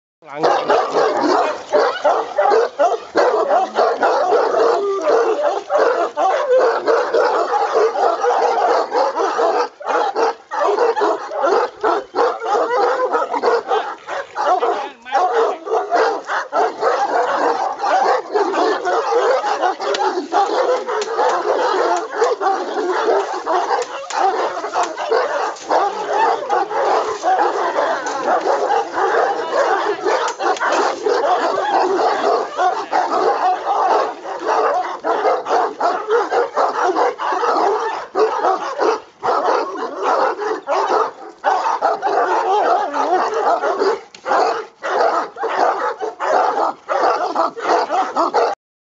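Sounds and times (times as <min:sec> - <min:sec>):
dogs barking and whining: 0:00.3 - 0:48.6.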